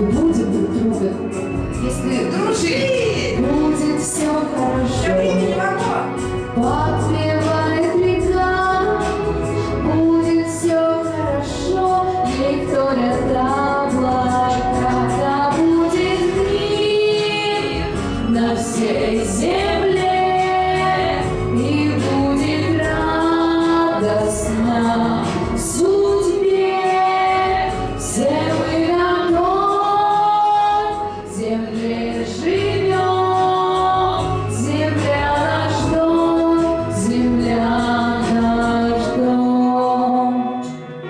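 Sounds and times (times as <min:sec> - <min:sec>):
backing music with steady beat: 0:00.0 - 0:41.0
woman singing pop song: 0:00.0 - 0:41.0.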